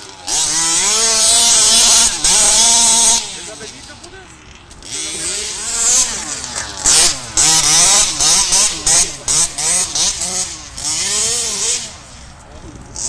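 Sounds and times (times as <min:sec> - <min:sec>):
two-stroke engine revving: 0:00.0 - 0:12.4.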